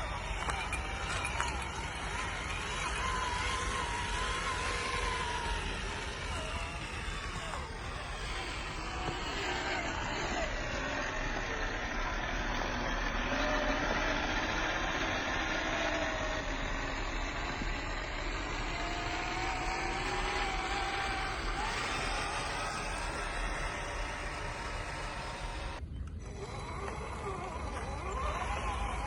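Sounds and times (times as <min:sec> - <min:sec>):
toy truck motor whining: 0:00.0 - 0:29.0.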